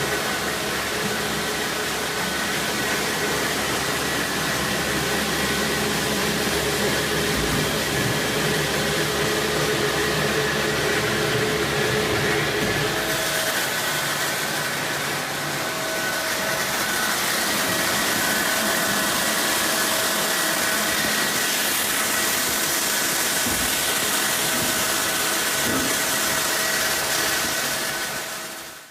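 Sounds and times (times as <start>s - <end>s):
machine whir and hiss: 0.0s - 28.9s.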